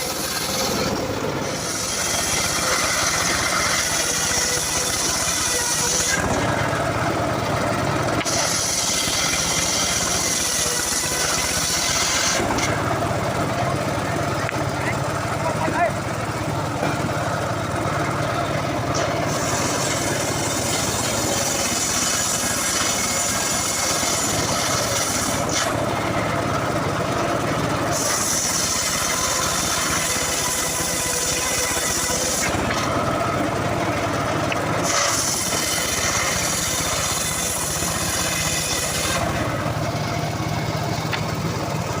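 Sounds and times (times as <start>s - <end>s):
saw blade cutting log: 0.0s - 42.0s
sawmill engine running: 0.0s - 42.0s.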